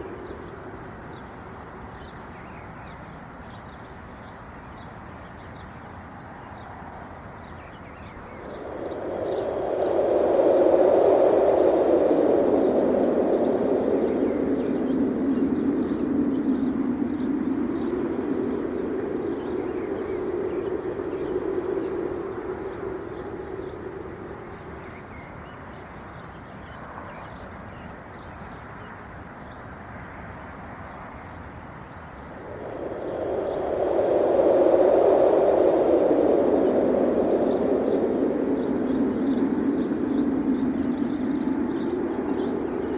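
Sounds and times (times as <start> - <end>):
small birds chirping: 0.0 - 42.9
wind gusting: 0.0 - 42.9.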